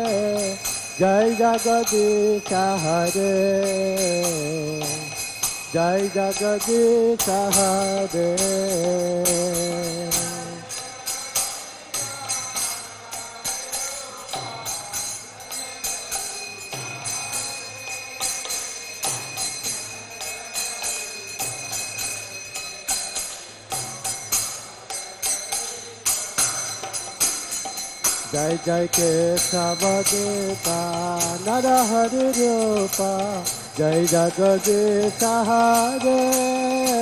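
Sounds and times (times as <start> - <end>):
hand cymbals and bells jingling: 0.0 - 37.0.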